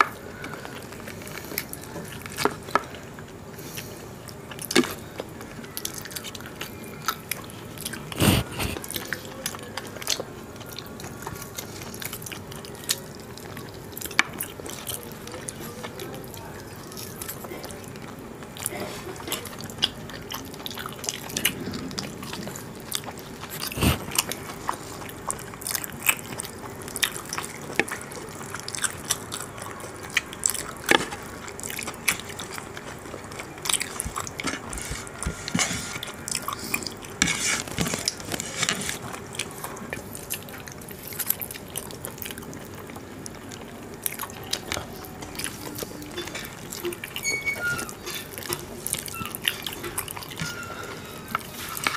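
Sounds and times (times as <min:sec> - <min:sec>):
chewing and biting: 0:00.0 - 0:50.7.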